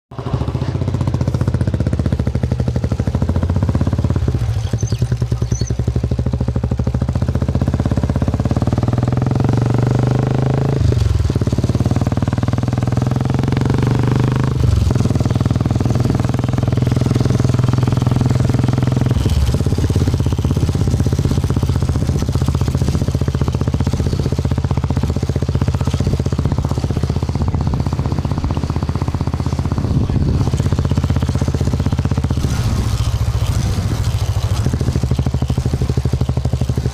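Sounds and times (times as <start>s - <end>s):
motorcycle engine pulsing exhaust: 0.1s - 36.9s.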